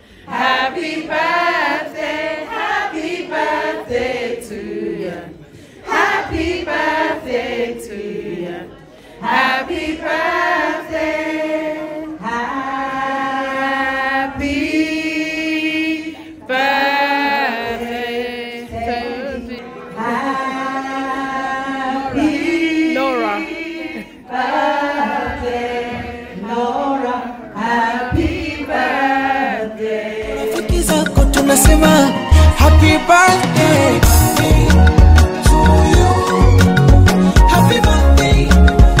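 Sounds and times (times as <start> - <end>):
group singing a chant: 0.0 - 39.0.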